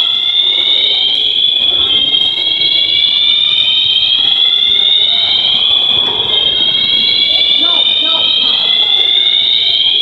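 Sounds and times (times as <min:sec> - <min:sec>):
fire alarm sounders: 0:00.0 - 0:10.0.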